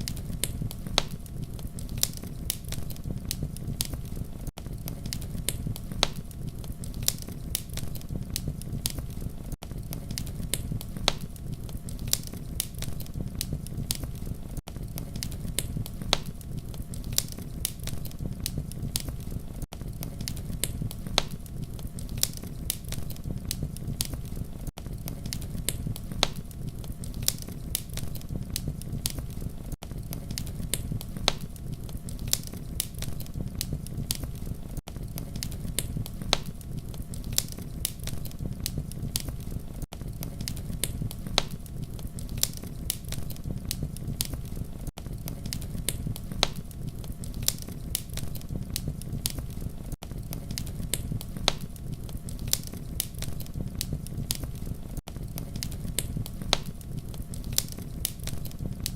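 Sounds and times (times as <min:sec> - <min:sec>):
burning wood crackling and popping: 0:00.0 - 0:58.9
campfire rumble: 0:00.0 - 0:58.9.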